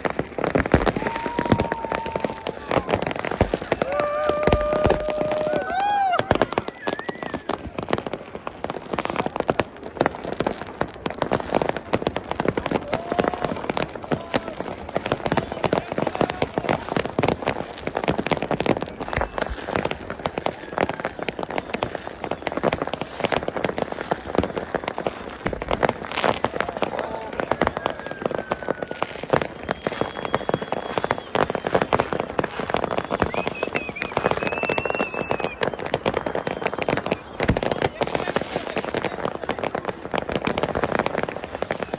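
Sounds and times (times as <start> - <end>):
firecracker bangs: 0.0 - 10.2, 10.9 - 41.9
fireworks crackling and popping: 0.0 - 41.9.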